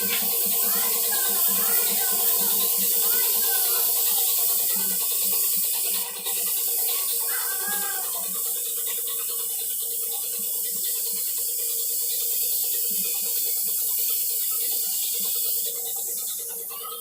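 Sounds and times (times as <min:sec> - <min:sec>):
spray paint hissing: 0:00.0 - 0:17.0.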